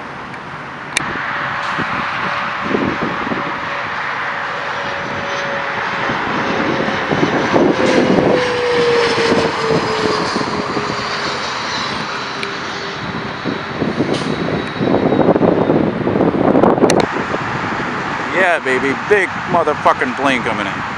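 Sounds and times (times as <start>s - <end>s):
airliner engine roar and whine: 0.0s - 20.9s.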